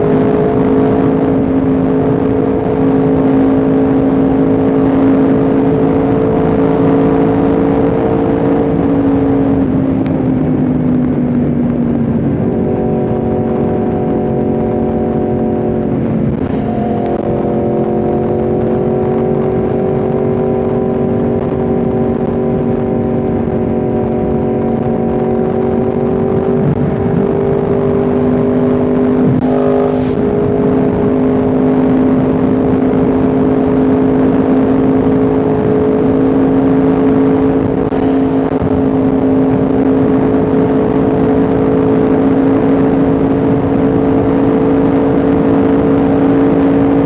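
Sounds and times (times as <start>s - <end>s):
motorcycle engine cruising: 0.0s - 47.0s.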